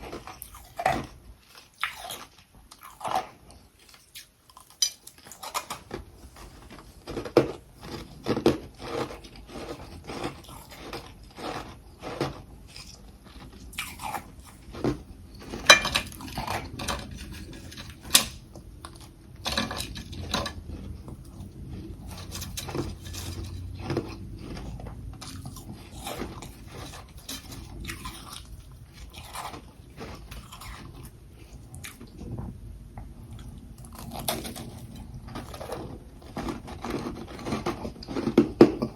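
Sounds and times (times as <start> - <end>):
person chewing crunchy ice: 0.0 - 32.4, 33.2 - 38.9.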